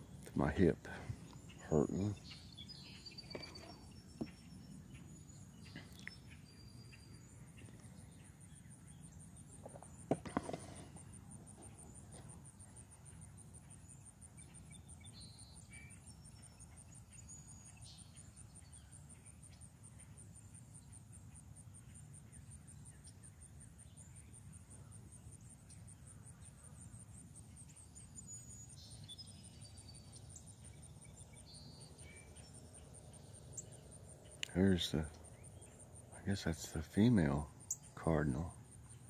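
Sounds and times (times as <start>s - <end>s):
soft bird chirps: 0.0s - 39.0s.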